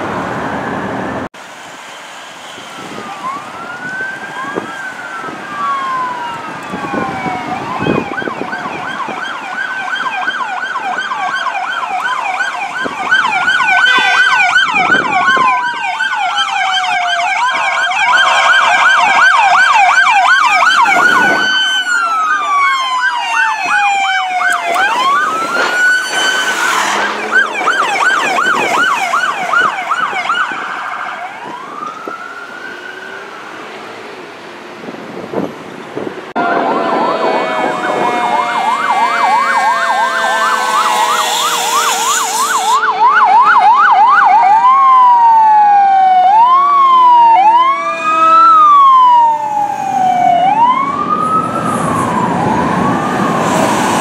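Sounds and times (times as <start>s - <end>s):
emergency vehicle sirens wailing: 0.0s - 54.0s.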